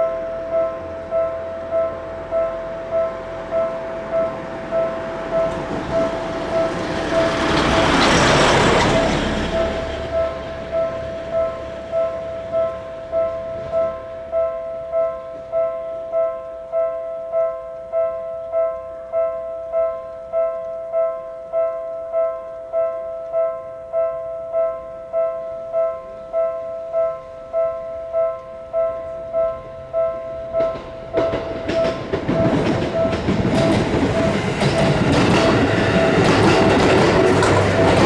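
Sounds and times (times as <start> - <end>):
faint rail noise: 0.0 - 38.0
level crossing warning bell ringing: 0.0 - 38.0.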